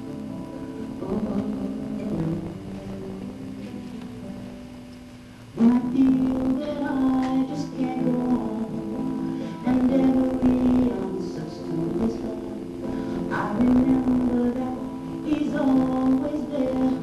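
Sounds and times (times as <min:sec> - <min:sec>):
acoustic guitar: 0:00.0 - 0:17.0
woman singing: 0:01.0 - 0:03.8, 0:05.6 - 0:17.0.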